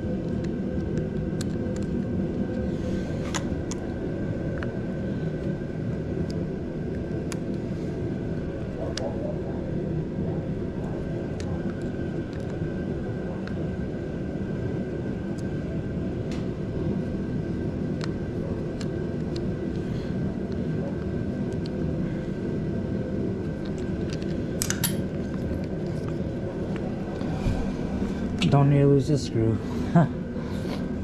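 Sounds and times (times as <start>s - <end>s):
low mechanical drone: 0.0s - 31.0s.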